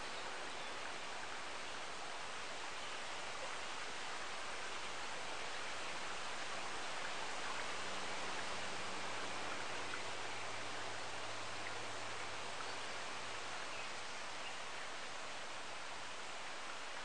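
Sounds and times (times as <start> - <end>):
rushing woodland ambience: 0.0 - 17.0.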